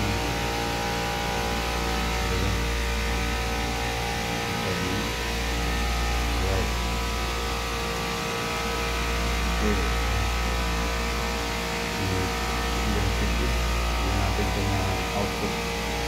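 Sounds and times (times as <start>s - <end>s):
refrigeration compressors humming: 0.0s - 16.0s.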